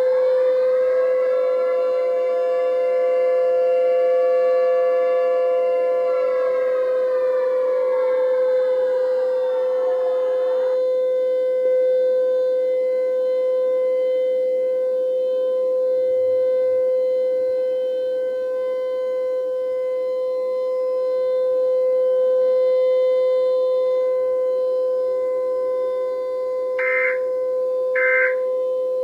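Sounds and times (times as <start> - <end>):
civil defense siren: 0.0 - 29.0.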